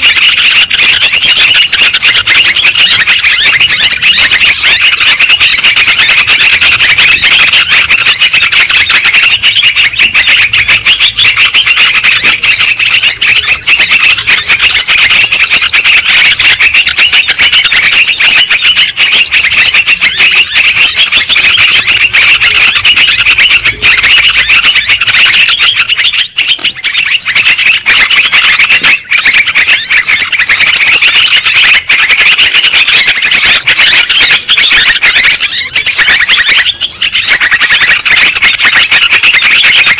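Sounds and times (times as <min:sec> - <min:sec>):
bulbuls chattering: 0:00.0 - 0:39.9.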